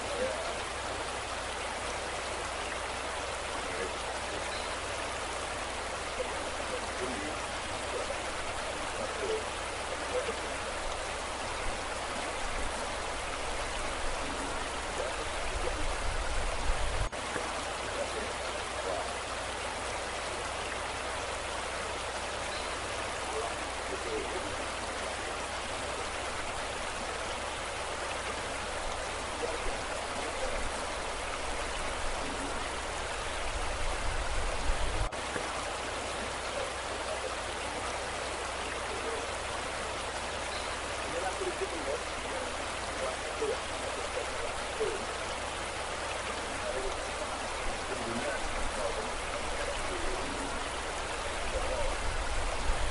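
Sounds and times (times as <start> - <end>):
floodwater rushing roar: 0.0 - 52.9.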